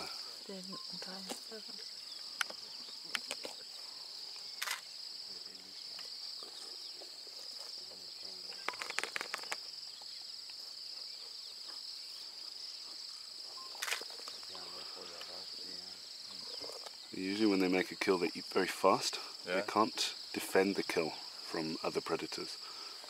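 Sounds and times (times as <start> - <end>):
crickets shrill buzz: 0.0 - 23.0.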